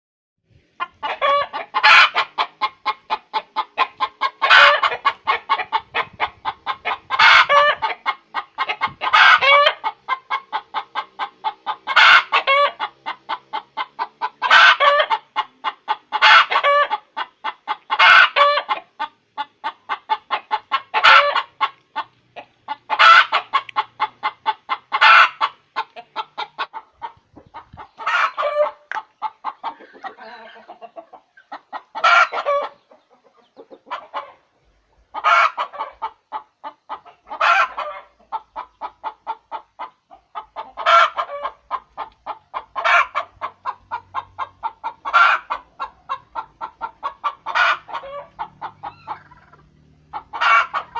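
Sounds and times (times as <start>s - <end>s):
hen cackling and squawking: 0.7s - 50.9s.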